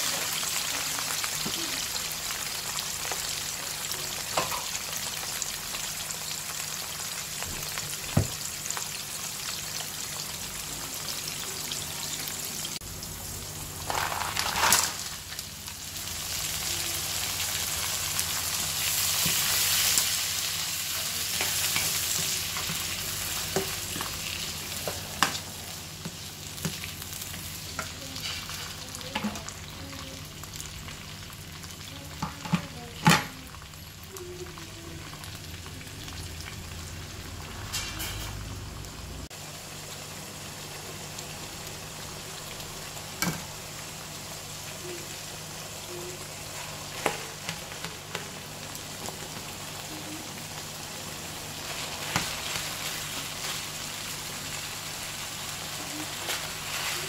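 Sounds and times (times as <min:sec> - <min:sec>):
vegetables sizzling in a frying pan: 0:00.0 - 0:57.0.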